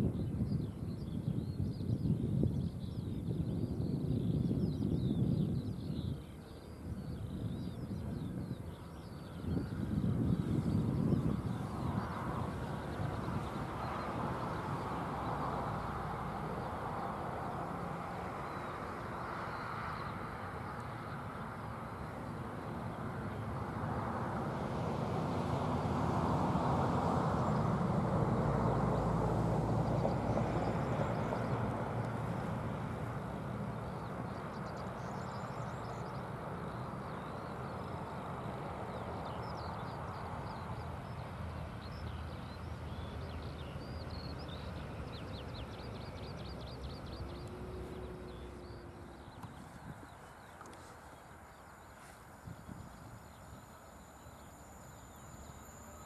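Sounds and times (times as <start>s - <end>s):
distant train passing rumble: 7.9s - 56.0s.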